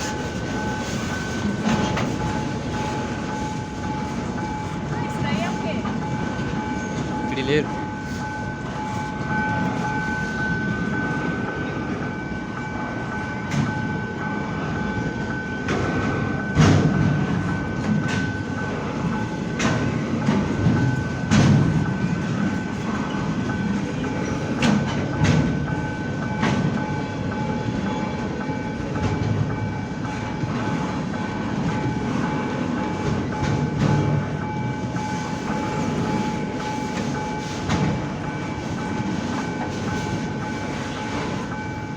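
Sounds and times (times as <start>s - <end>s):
freight train rumbling: 0.0s - 41.9s.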